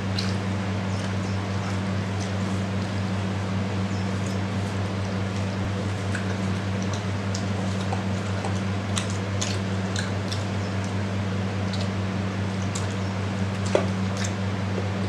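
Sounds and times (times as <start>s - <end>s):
eating by hand clicks and squishes: 0.0s - 15.0s.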